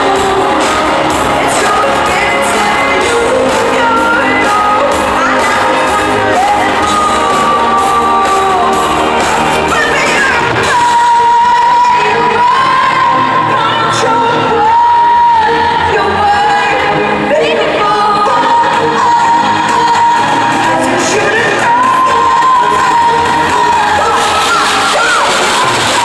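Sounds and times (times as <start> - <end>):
crowd shouting and whooping: 0.0 - 26.0
live pop band playing: 0.0 - 26.0
woman singing: 0.0 - 26.0.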